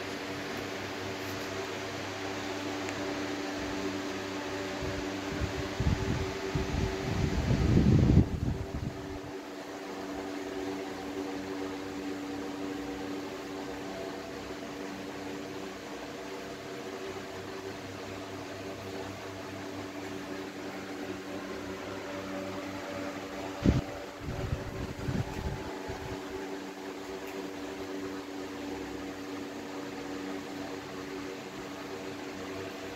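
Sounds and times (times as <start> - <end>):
steady machine hum: 0.0 - 32.9.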